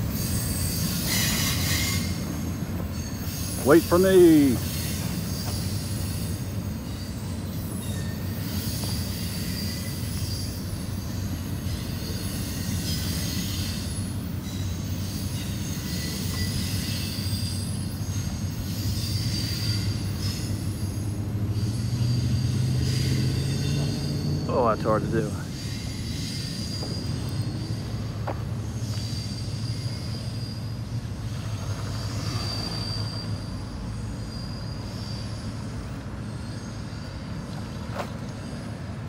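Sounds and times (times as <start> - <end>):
high-pitched wheel squeal: 0.0 - 37.4
train wheels rumbling and rattling: 0.0 - 39.0.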